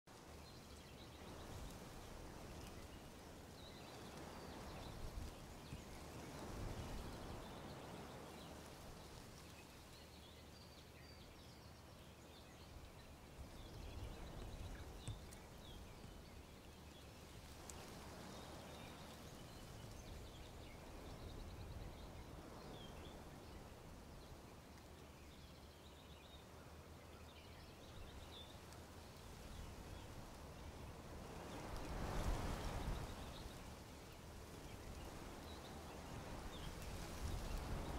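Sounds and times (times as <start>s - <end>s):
small birds chirping: 0.1s - 37.9s
wind rustling tree leaves: 0.1s - 37.9s.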